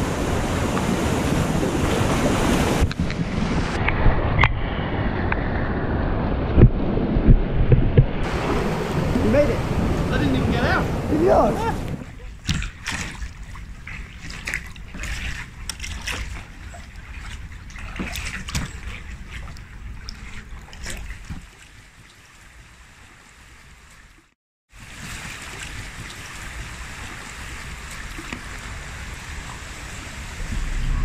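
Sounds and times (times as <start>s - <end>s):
river water rushing: 0.0s - 2.9s, 8.2s - 24.1s, 24.8s - 31.0s
paddle splashing water: 0.0s - 3.8s, 8.2s - 31.0s
wind rumble on microphone: 0.0s - 21.6s, 24.8s - 31.0s.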